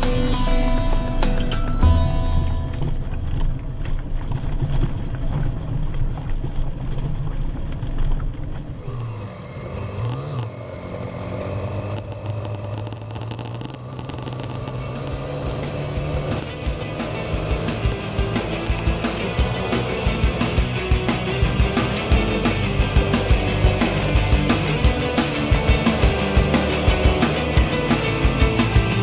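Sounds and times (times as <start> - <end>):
motorbike engine running: 2.5 - 29.0.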